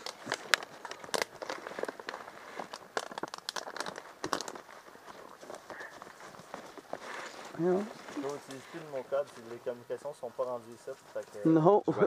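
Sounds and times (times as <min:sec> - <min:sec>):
rustling and crackling: 0:00.0 - 0:11.6.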